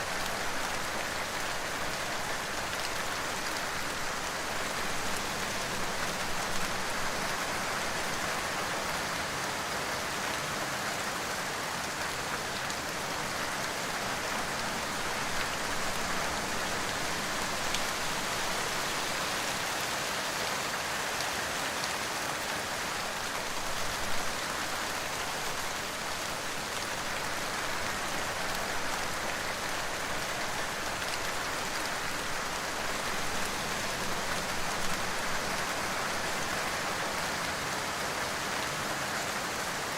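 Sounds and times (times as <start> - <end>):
louder raindrops: 0.0 - 39.9
steady rain hiss: 0.0 - 39.9.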